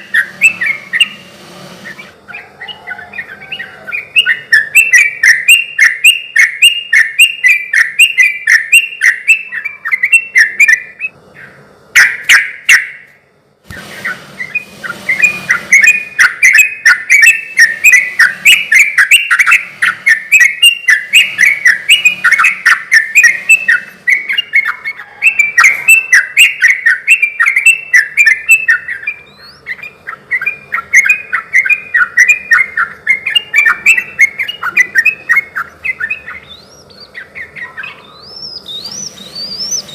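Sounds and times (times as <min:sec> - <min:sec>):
bird singing chirping notes: 0:00.0 - 0:13.2, 0:14.0 - 0:39.9.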